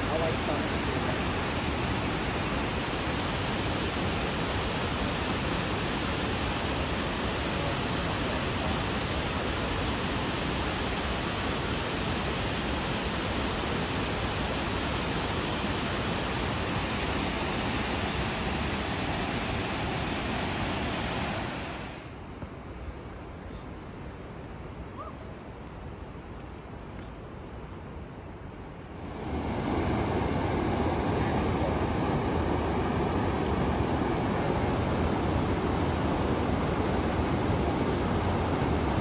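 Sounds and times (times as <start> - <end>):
waterfall rushing: 0.0 - 22.2, 29.0 - 39.0.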